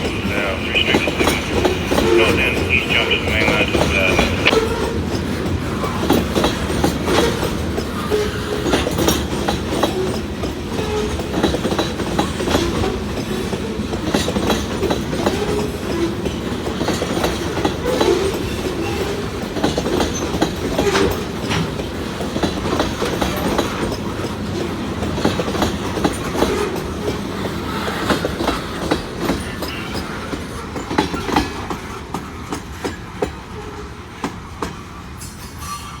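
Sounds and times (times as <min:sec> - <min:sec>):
train wheels clacking over rail joints: 0:04.5 - 0:35.9.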